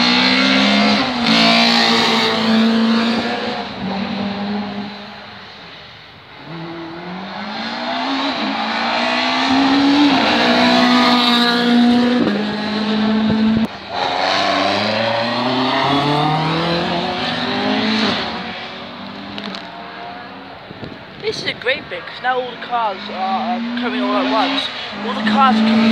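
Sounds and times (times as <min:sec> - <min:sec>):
rally cars accelerating hard: 0:00.0 - 0:25.9.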